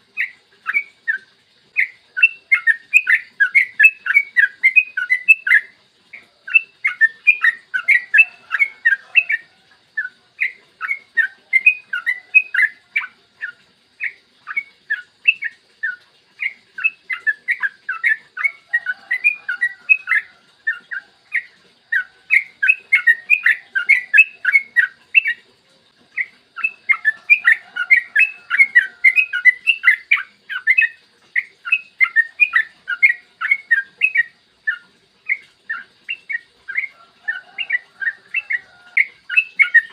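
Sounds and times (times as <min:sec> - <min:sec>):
bulbul singing chirping runs: 0:00.0 - 0:39.9.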